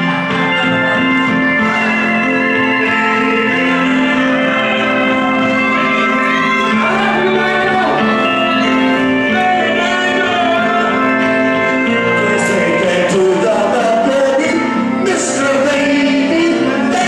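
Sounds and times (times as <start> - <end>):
electronic keyboard chords: 0.0 - 17.0
person singing: 0.0 - 17.0.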